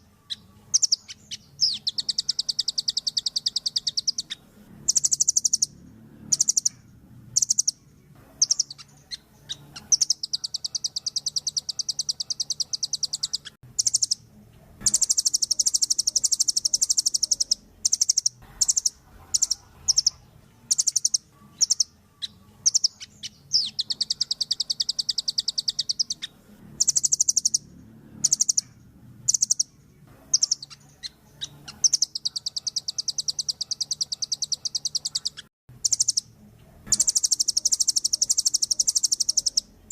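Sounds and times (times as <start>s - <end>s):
bird giving rapid trills: 0.7s - 6.8s, 8.4s - 14.2s, 14.8s - 21.9s, 22.6s - 29.7s, 30.3s - 36.3s, 36.9s - 39.9s.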